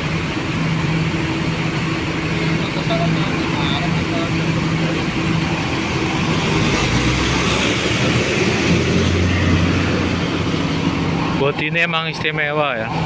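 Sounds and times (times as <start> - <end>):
bus diesel engine driving past: 0.0 - 13.0.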